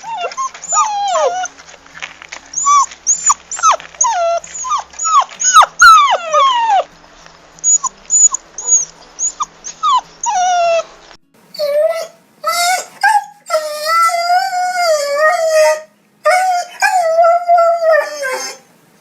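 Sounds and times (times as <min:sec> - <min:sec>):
puppies crying and whimpering: 0:00.0 - 0:18.7.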